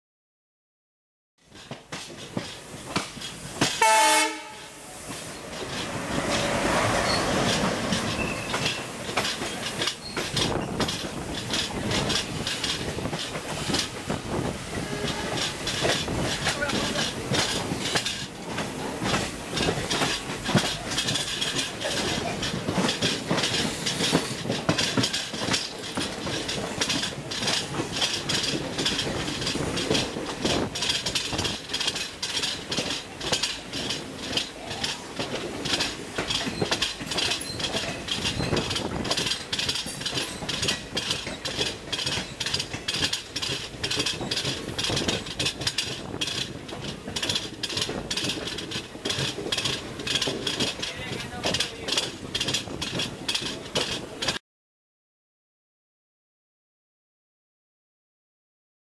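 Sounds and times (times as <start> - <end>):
passing train on adjacent track: 1.4 - 54.4
train wheels clattering over rail joints: 1.4 - 54.4
train rumble and hiss: 1.5 - 54.4.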